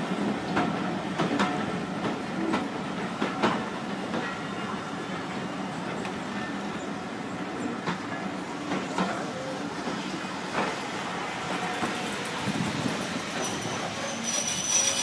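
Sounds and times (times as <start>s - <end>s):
train coaches rolling on track: 0.0s - 15.0s.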